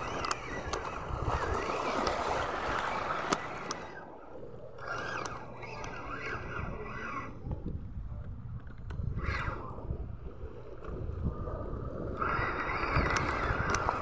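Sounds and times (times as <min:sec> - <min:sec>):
wind on microphone: 0:00.0 - 0:04.1, 0:04.8 - 0:14.0
fishing reel whirring: 0:00.0 - 0:07.8, 0:08.7 - 0:14.0.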